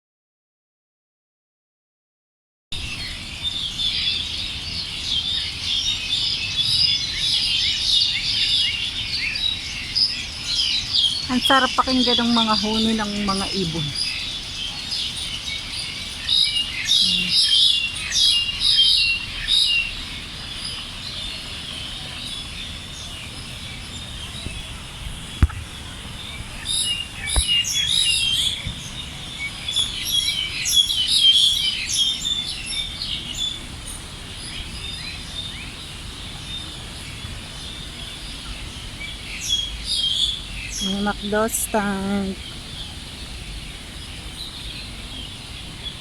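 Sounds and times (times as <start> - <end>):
songbirds chirping and twittering: 2.8 - 46.0.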